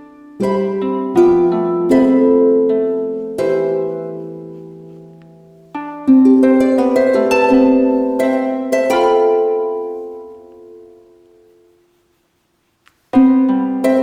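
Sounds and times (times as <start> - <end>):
plucked string notes: 0.0 - 11.7, 13.2 - 14.0.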